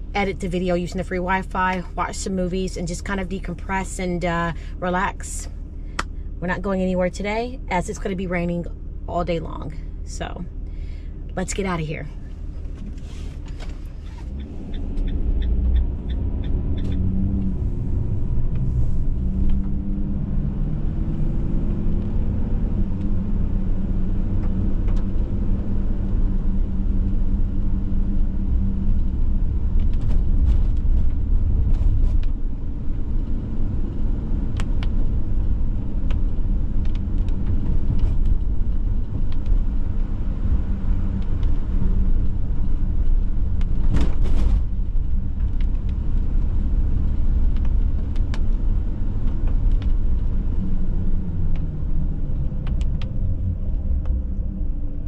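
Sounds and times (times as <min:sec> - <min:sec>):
van engine and road rumble: 0:00.0 - 0:55.0.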